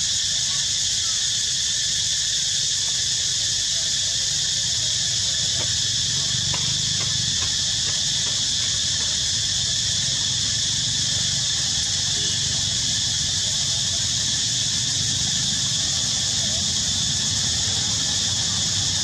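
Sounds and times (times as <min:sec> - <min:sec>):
high-pitched insect chorus buzzing: 0:00.0 - 0:19.0.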